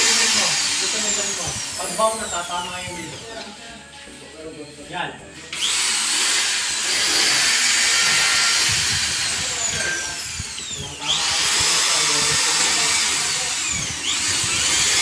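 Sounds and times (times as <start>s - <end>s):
power drill running: 0.0s - 3.4s, 5.5s - 15.0s.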